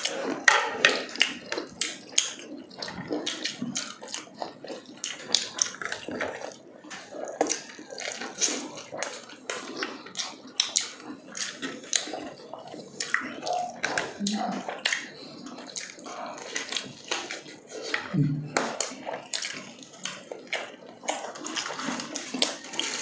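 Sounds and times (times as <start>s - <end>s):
crisp crunches of chewing: 0.0s - 23.0s.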